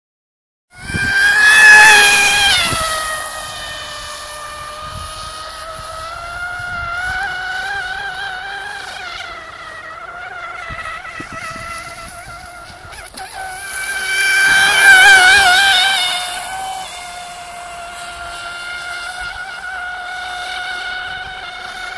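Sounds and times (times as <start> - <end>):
model boat motor whining: 0.7 - 21.9.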